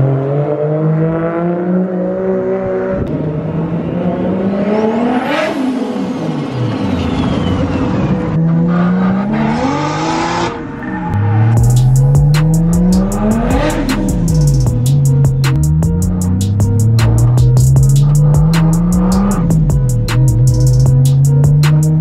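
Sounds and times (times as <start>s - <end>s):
car engine accelerating hard: 0.0s - 22.0s
high turbo whine: 2.9s - 22.0s.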